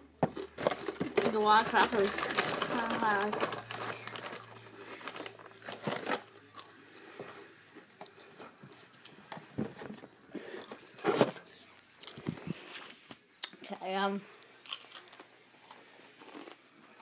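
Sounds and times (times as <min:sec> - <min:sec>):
crackers crunching while chewed: 0:00.2 - 0:09.4, 0:10.3 - 0:13.6, 0:14.4 - 0:17.0.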